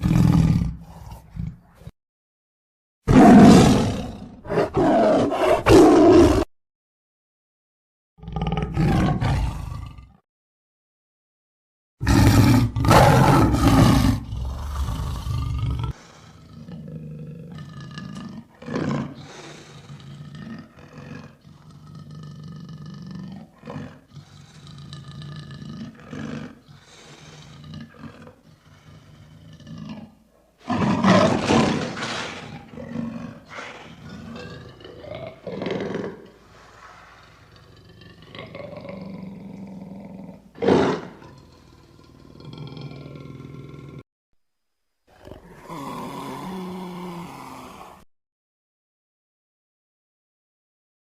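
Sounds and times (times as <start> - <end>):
lion roaring: 0.0 - 1.9, 3.1 - 6.5, 8.2 - 10.2, 12.0 - 44.0, 45.1 - 48.0.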